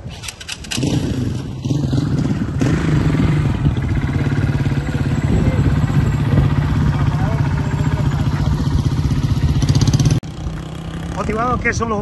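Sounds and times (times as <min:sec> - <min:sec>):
motorcycle engine idling: 0:00.2 - 0:12.0.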